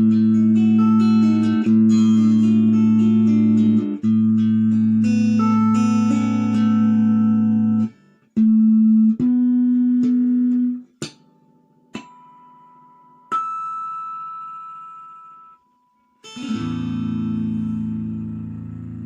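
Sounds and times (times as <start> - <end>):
plucked guitar notes: 0.0 - 15.6, 16.2 - 19.0
guitar held notes: 0.0 - 19.0.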